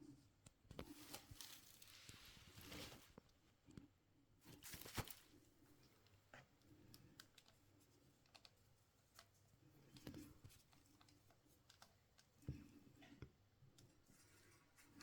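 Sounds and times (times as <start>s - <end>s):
faint clicks and light knocks: 0.2s - 15.0s.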